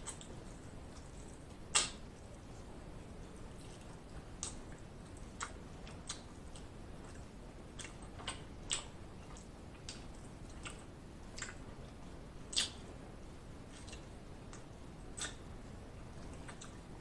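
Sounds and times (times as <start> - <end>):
lip smacks and mouth clicks: 0.0 - 13.0, 13.6 - 17.0.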